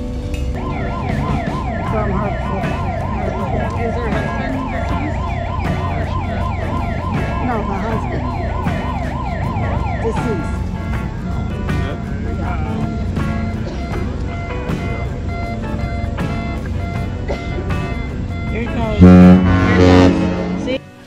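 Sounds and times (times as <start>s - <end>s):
siren yelping: 0.6s - 20.8s.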